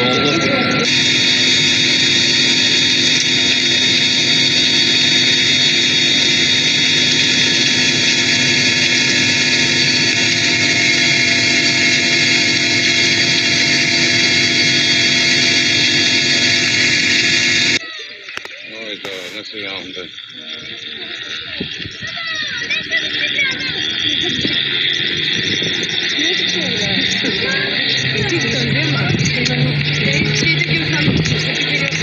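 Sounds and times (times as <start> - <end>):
machine hiss with whining tones: 0.0 - 32.0.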